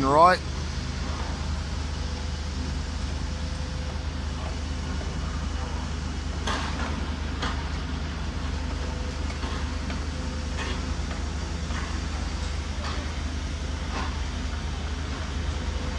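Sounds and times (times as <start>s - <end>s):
diesel engine drone: 0.0s - 15.9s.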